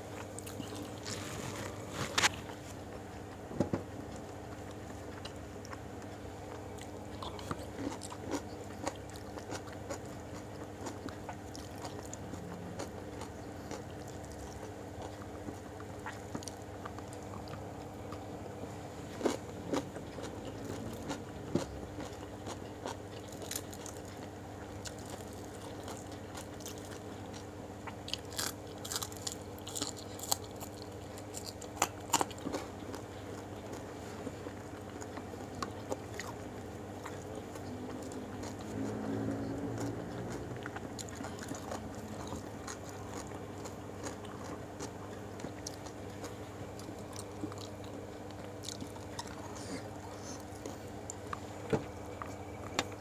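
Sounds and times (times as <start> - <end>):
steady low hum: 0.0 - 53.0
person chewing and crunching: 0.1 - 3.4, 4.0 - 52.8.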